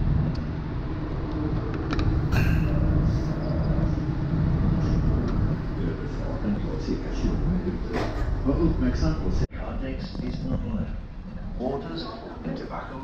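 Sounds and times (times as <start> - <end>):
ferry machinery rumble and hum: 0.0 - 13.0.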